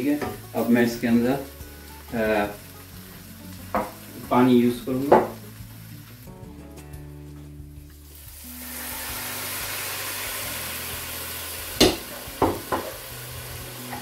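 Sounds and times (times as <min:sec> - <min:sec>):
water sizzling in hot pot: 0:00.0 - 0:14.0.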